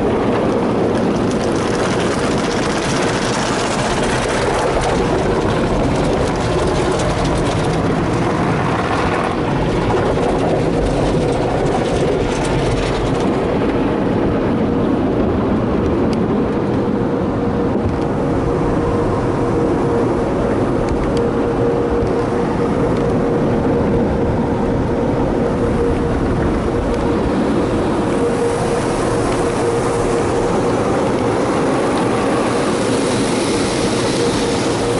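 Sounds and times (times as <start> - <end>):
car wash machinery rushing: 0.0 - 34.9
constant hum: 0.0 - 34.9.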